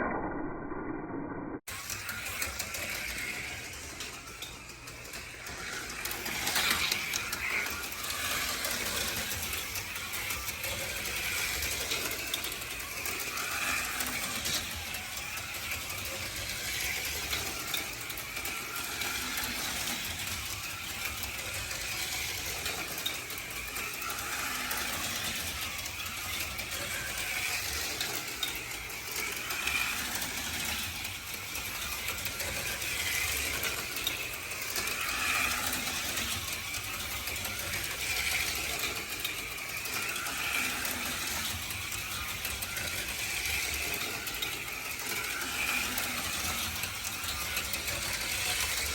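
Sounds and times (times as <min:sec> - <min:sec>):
slot car motors whirring: 0:01.7 - 0:48.9.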